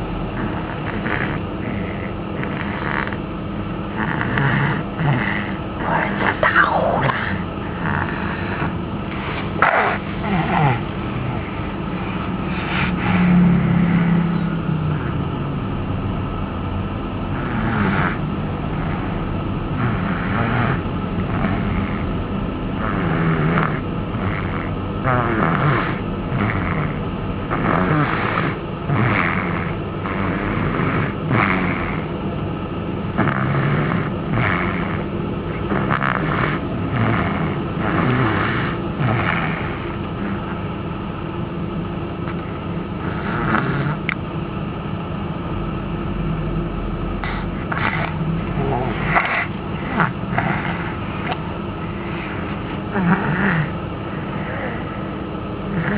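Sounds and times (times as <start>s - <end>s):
person snoring: 0.0s - 3.3s, 3.9s - 15.6s, 17.3s - 32.1s, 33.1s - 40.7s, 42.2s - 44.2s, 47.2s - 55.9s
steady low rumble: 0.0s - 55.9s.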